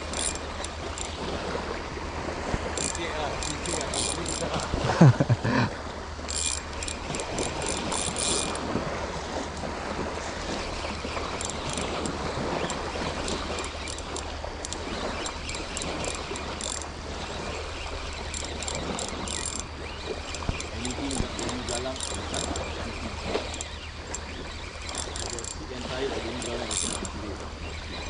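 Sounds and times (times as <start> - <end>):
light surf: 0.0 - 28.0
wind: 0.0 - 28.0.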